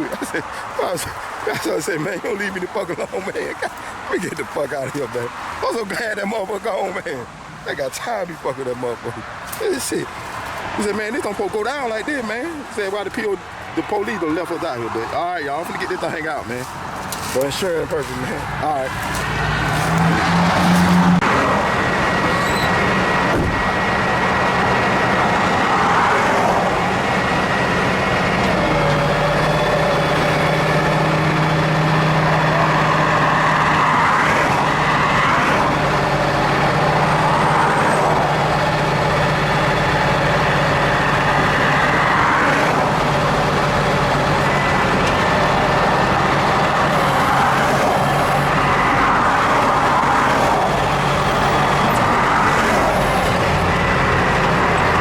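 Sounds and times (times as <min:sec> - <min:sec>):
tow truck engine running: 0:00.0 - 0:55.0
vehicles passing: 0:00.0 - 0:55.0.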